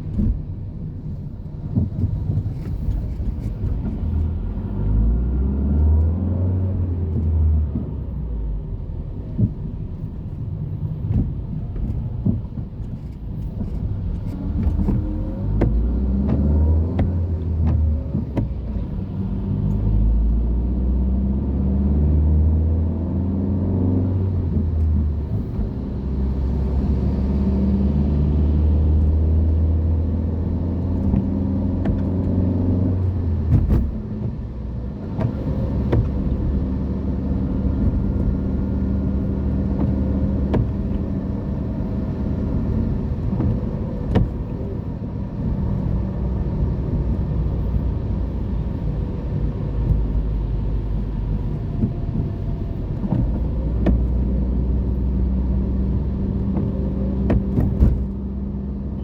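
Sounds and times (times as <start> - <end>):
car engine drone: 0.0 - 59.0
road traffic noise: 0.0 - 59.0.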